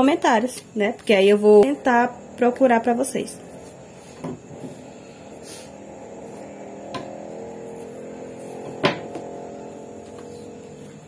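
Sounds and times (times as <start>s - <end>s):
motorcycle engine running: 1.3s - 11.0s.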